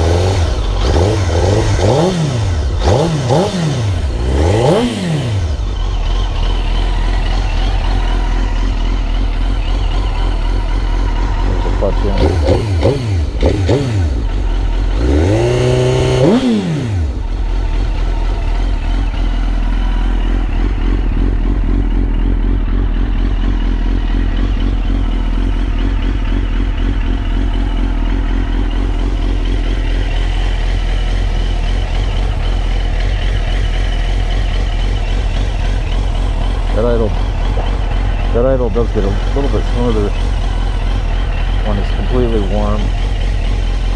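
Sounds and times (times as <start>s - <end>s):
motorcycle engine idling: 0.0s - 43.9s
motorcycle engine revving: 0.0s - 43.9s.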